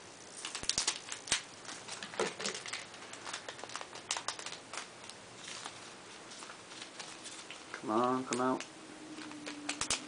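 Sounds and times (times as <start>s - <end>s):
cards clicking and foil crinkling: 0.2s - 10.0s.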